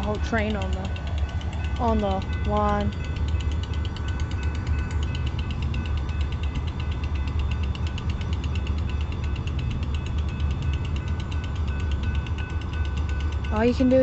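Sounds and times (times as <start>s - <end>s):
low rumble: 0.0s - 12.4s
crossing bell ringing: 0.0s - 14.0s.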